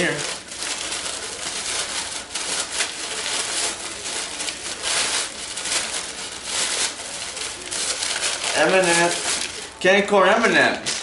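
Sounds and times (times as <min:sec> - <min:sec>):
paper crinkling and rustling: 0:00.0 - 0:09.8, 0:10.4 - 0:11.0.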